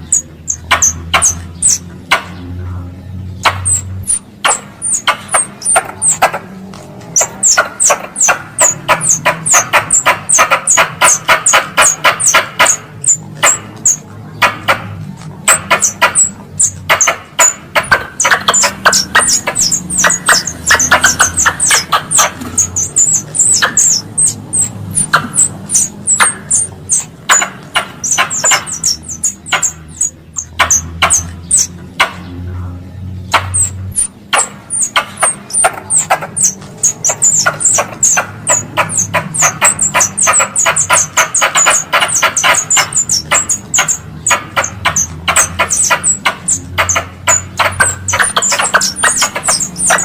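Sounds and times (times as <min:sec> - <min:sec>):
squirrel chattering call: 0:00.0 - 0:50.0.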